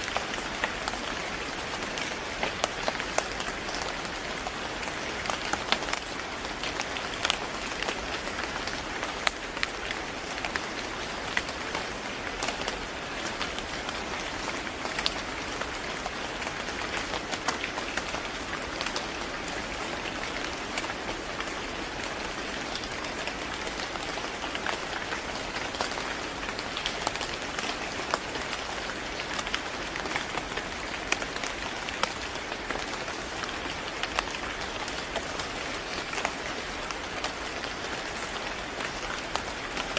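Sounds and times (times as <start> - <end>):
raindrops pattering on hard surface: 0.0 - 39.9
steady rain hiss: 0.0 - 39.9.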